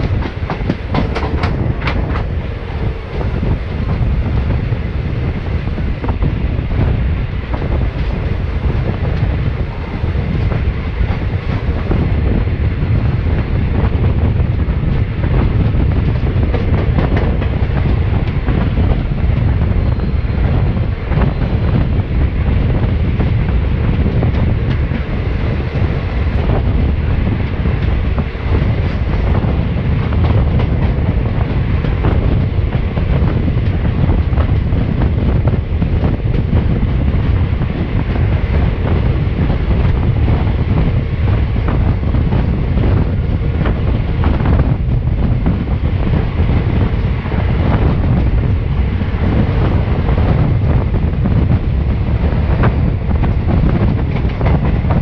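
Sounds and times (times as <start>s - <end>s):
train wheels rumbling on rails: 0.0s - 55.0s
wind rushing against microphone: 0.0s - 55.0s.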